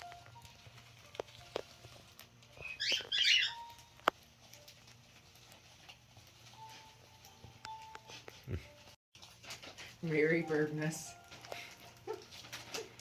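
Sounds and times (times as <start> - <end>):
birds pecking at paper: 0.0 - 13.0
paper rustling and crinkling: 0.0 - 13.0.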